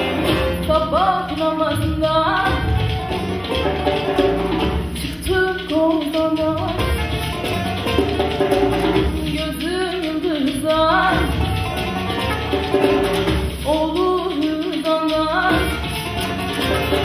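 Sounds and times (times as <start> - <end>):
live folk music ensemble: 0.0 - 17.0.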